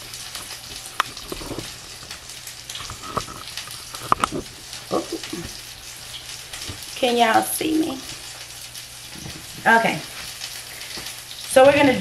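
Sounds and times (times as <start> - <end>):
meat patties sizzling in a pan: 0.0 - 12.0.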